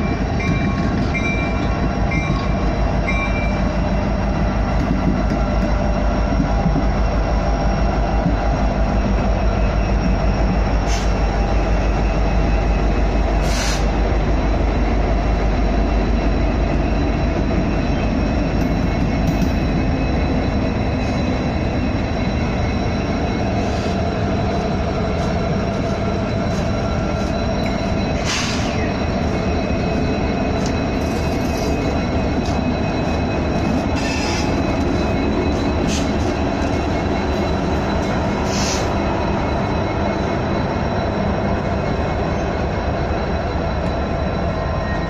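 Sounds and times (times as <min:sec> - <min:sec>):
locomotive engines rumbling: 0:00.0 - 0:45.0.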